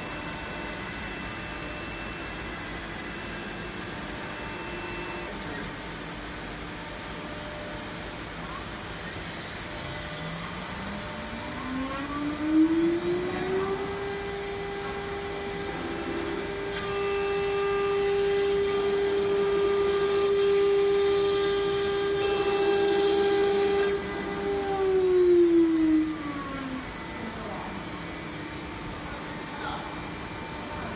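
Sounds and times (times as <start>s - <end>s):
cnc spindle whine: 0.0s - 30.9s.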